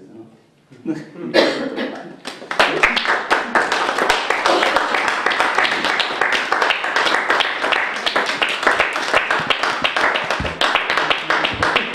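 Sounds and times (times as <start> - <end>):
audience applauding: 2.2 - 11.9.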